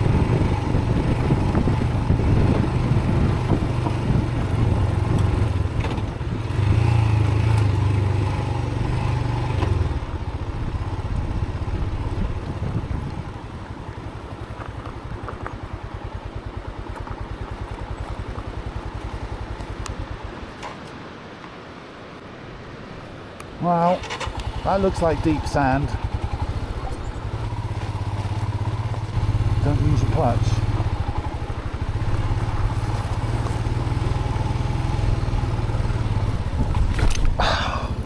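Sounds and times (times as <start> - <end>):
motorcycle engine running: 0.0 - 20.5, 24.0 - 38.0.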